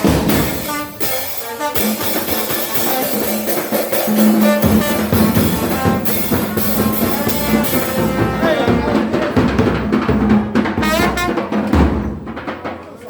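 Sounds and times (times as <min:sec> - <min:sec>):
wind instruments playing melody: 0:00.0 - 0:09.6, 0:10.8 - 0:11.7
drums: 0:00.0 - 0:13.0.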